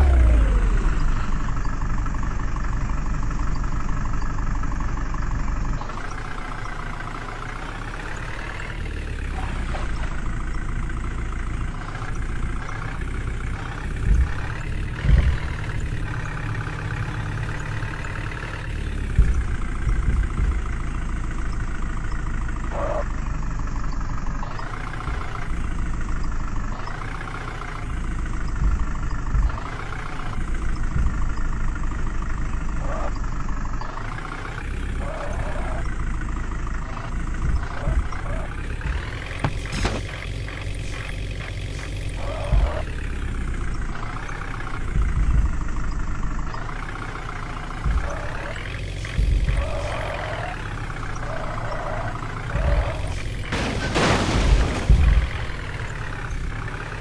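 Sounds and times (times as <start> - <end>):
tractor diesel engine revving: 0.0 - 57.0
low thumps: 5.8 - 22.6, 24.3 - 57.0.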